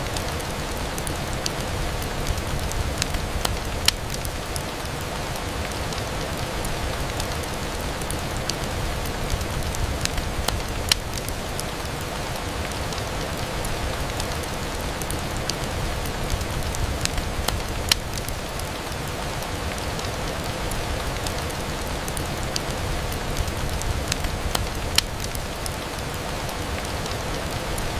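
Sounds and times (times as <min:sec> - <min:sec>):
rain on a window: 0:00.0 - 0:27.9.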